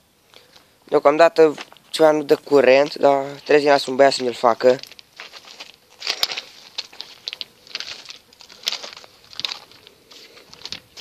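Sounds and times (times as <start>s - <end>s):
footsteps on gravel: 0.4s - 11.0s.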